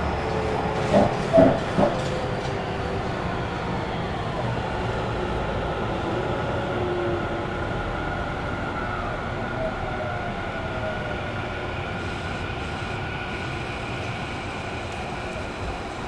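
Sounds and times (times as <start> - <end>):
train wheels rumbling on rail: 0.0 - 8.7, 9.9 - 16.0.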